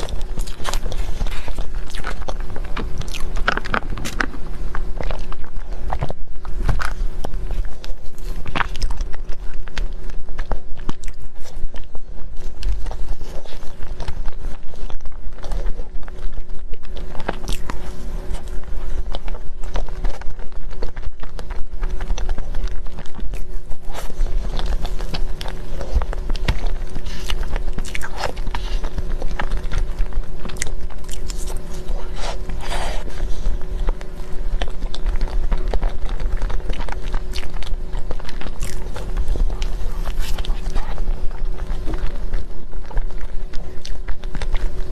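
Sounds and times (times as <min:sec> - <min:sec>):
biting and chewing cake: 0:00.0 - 0:44.9
faint steady hum: 0:00.0 - 0:44.9
steady low rumble: 0:00.0 - 0:44.9.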